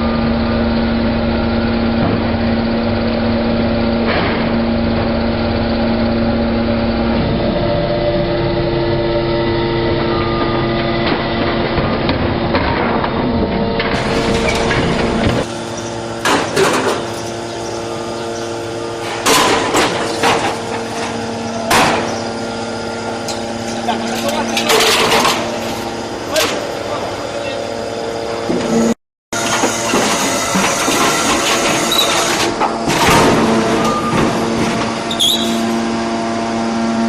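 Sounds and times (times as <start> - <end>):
hydraulic power pack hum: 0.0 - 37.0.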